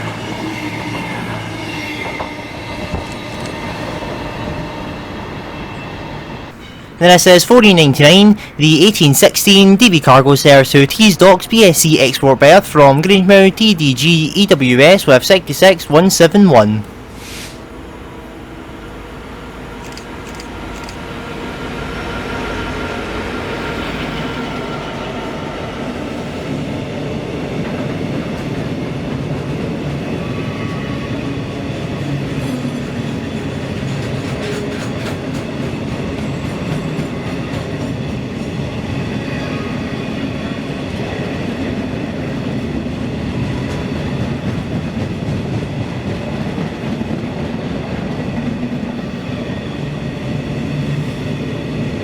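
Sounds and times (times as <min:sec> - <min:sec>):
diesel locomotive engine: 0:00.0 - 0:52.0.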